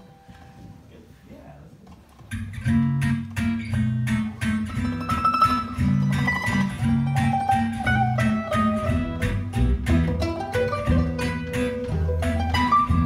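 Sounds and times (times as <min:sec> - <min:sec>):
acoustic guitar strumming: 0:02.3 - 0:13.0
mandolin melody: 0:02.3 - 0:13.0
upright bass: 0:02.3 - 0:13.0.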